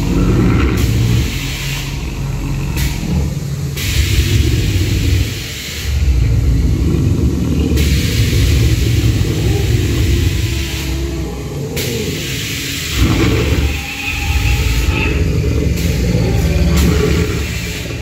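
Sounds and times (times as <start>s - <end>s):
deep rumbling dinosaur roar: 0.0s - 18.0s
hiss: 0.0s - 18.0s.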